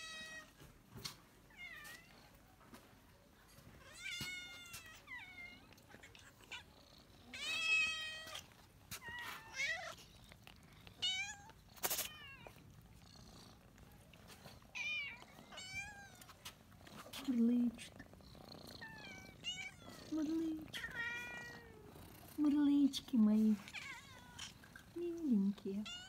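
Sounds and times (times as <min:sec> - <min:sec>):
cats meowing: 0:00.0 - 0:00.7, 0:01.4 - 0:02.4, 0:03.7 - 0:22.4, 0:23.5 - 0:24.9, 0:25.7 - 0:26.0.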